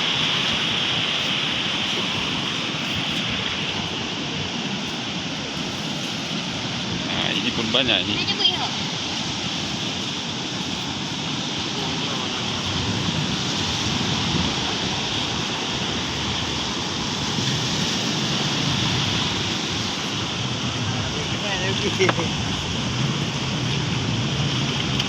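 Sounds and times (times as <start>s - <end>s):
rushing water: 0.0s - 25.0s
wind noise on microphone: 0.0s - 25.0s.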